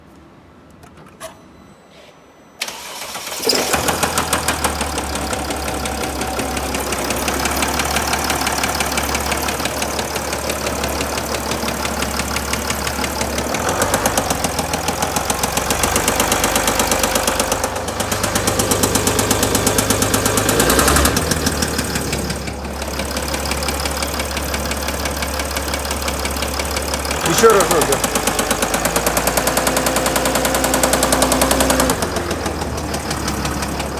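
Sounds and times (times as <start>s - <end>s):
diesel engine cranking and idling: 2.6s - 33.9s
rhythmic engine knock: 4.0s - 33.9s.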